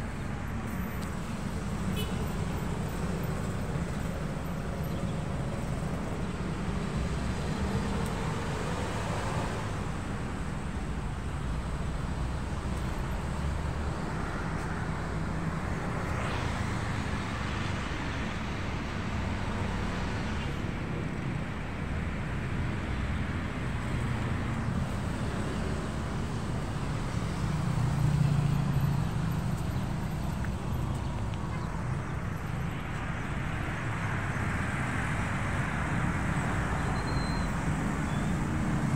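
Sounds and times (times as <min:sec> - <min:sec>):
cars and motorbikes passing: 0:00.0 - 0:38.9.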